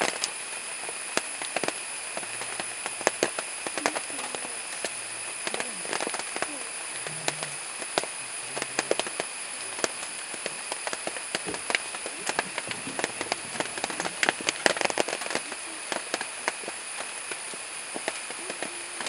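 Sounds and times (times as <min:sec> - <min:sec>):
stems crackling and snapping: 0:00.0 - 0:19.0.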